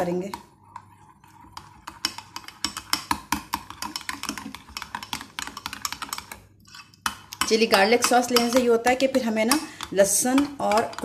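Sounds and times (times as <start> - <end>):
spoon scraping glass bowl: 0.0 - 11.0.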